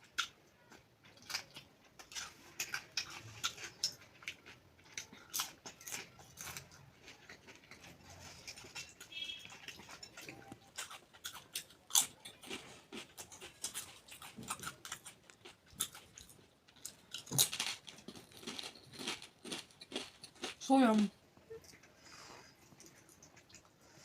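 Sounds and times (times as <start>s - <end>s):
person chewing and crunching food: 0.0s - 24.0s.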